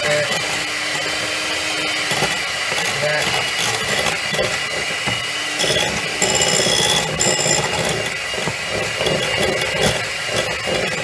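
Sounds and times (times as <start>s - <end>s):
electric mixer beating batter: 0.0s - 11.0s.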